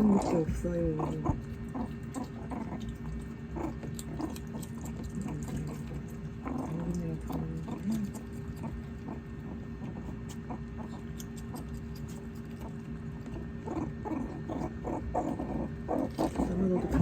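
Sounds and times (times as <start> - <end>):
meerkats chewing: 0.0 - 17.0.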